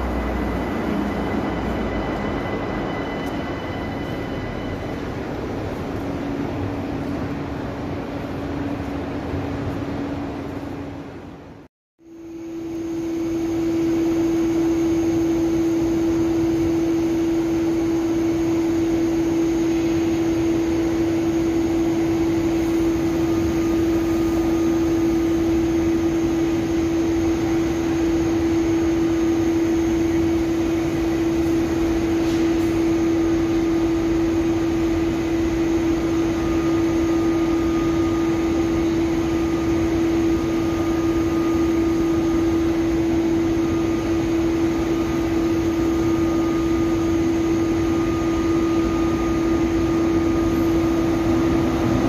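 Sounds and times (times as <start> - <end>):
train running along track: 0.0 - 11.6, 12.4 - 52.0
electric hum of train: 0.0 - 52.0.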